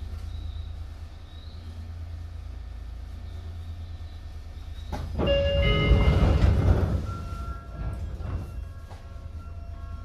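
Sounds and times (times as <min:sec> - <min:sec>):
inverter and motor whine: 0:00.0 - 0:10.0
train running rumble: 0:00.0 - 0:10.0.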